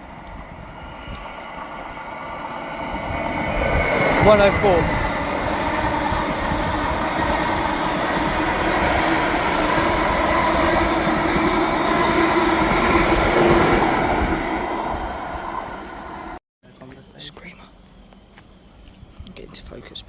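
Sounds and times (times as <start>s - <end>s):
electric train passing: 0.0s - 16.4s.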